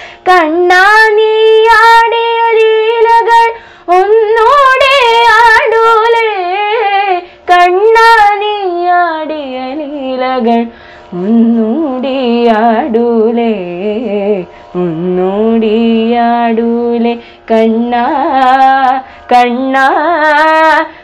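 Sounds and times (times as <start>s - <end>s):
girl singing: 0.2s - 20.9s.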